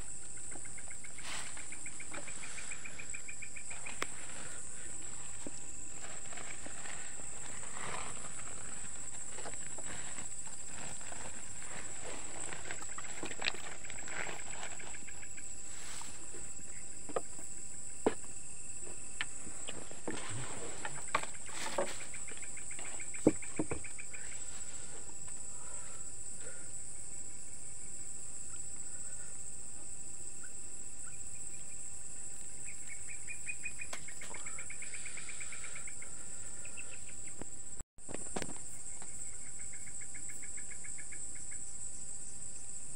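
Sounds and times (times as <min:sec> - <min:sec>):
high-pitched cricket trill: 0:00.0 - 0:42.9
lower pulsing insect trill: 0:00.0 - 0:42.9.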